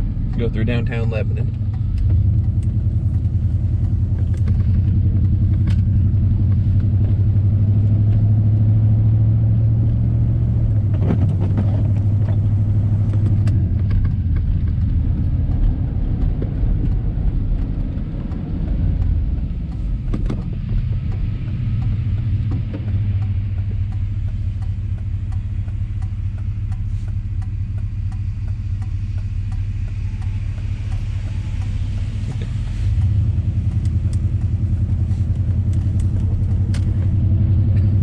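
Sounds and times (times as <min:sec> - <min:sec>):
pickup engine and tyres rumbling: 0:00.0 - 0:38.0.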